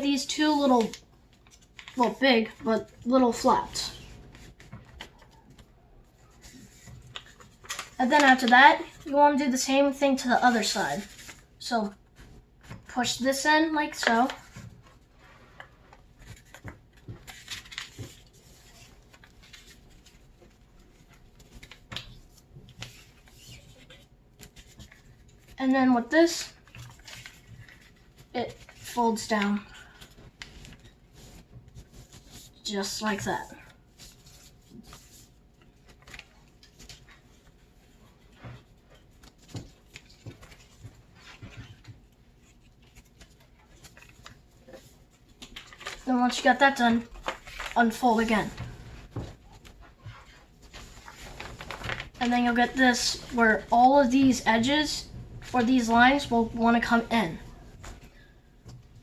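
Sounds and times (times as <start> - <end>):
paper being folded and creased: 0.0 - 59.0.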